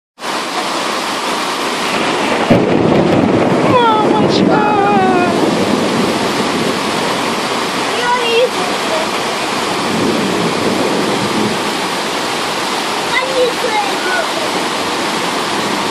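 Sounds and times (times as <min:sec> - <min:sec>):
heavy rain pouring: 0:00.2 - 0:15.9
rushing floodwater: 0:00.2 - 0:15.9.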